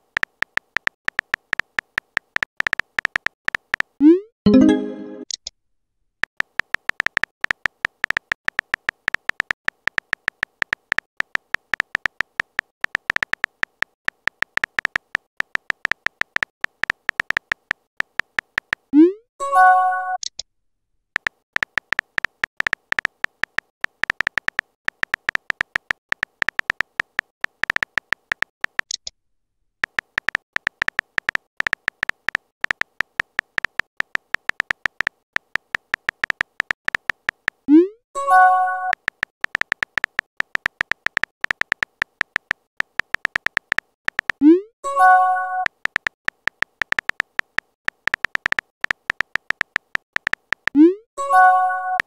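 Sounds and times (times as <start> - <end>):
keyboard typing clicks: 0.0 - 5.5, 6.2 - 20.4, 21.2 - 29.1, 29.8 - 52.0.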